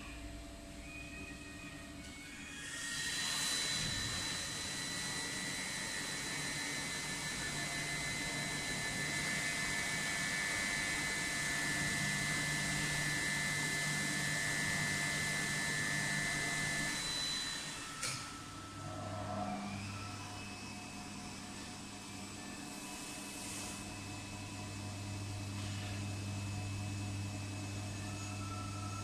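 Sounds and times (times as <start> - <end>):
motor hum: 0.0 - 29.0
thin high whine: 0.0 - 29.0.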